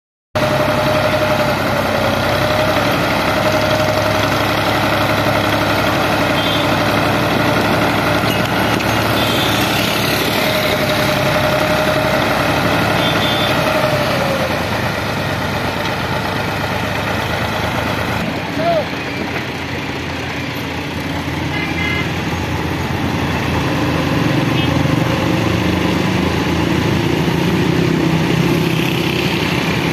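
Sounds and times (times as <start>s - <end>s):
tractor diesel engine running: 0.4s - 29.9s.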